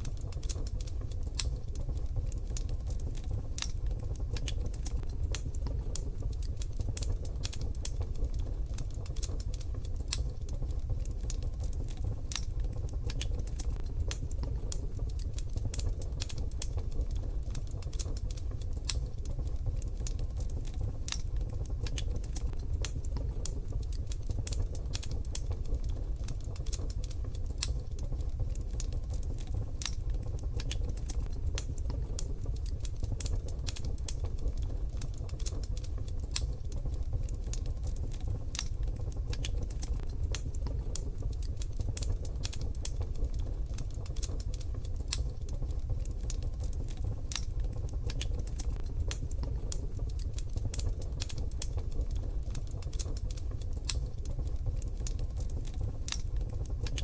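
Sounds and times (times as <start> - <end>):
wood fire crackling in stove: 0.0 - 57.0.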